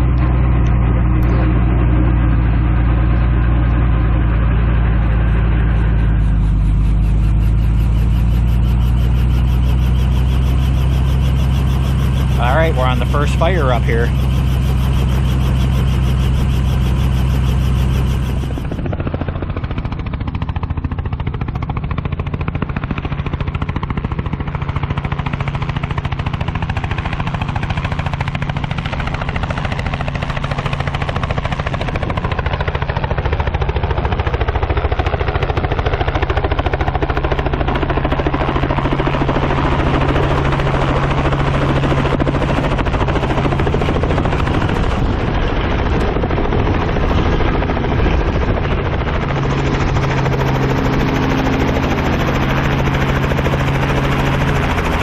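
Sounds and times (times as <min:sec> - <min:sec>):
helicopter rotor spinning up: 0:00.0 - 0:55.0.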